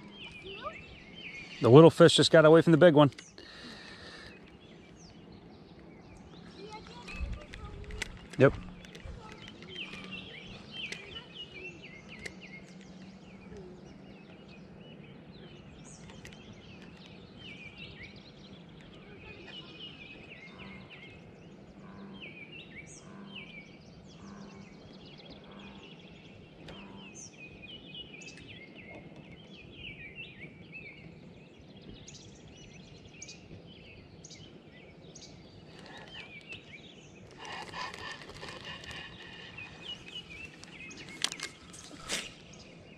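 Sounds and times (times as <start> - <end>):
outdoor background noise: 0.0 - 42.9
small birds chirping: 0.0 - 42.9.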